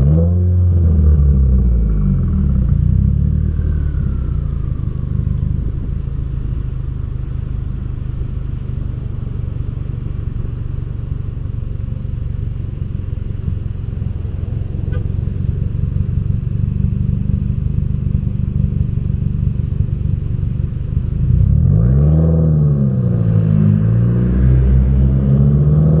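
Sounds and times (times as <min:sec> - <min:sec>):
car exhaust droning: 0:00.0 - 0:26.0.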